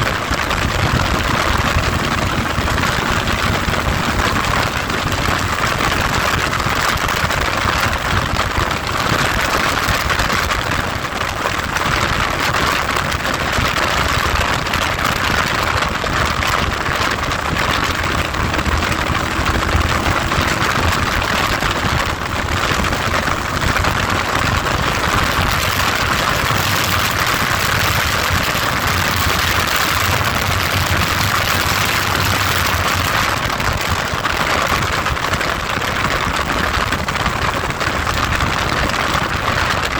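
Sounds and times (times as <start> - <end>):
low engine rumble: 0.0 - 12.3, 13.1 - 39.9
wind buffeting microphone: 0.0 - 39.9.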